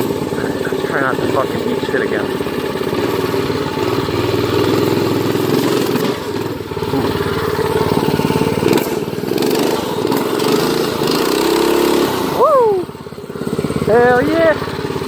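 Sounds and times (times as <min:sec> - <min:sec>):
minibike engine revving: 0:00.0 - 0:15.0.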